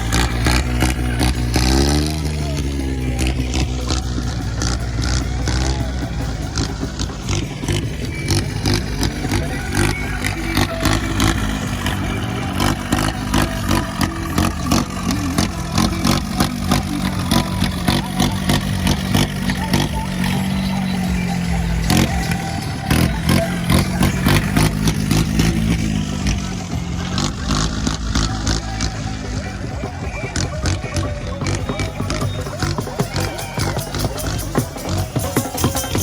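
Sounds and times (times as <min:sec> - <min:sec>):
rhythmic knocking: 0:00.0 - 0:36.0
tractor diesel engine running: 0:00.0 - 0:36.0.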